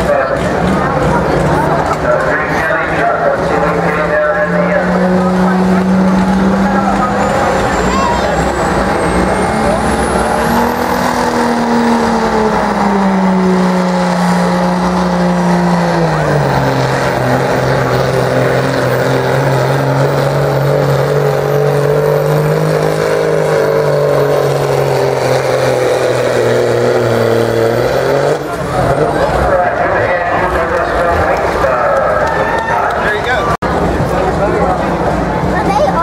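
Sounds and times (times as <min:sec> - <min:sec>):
diesel engine under full throttle: 0:00.0 - 0:36.0.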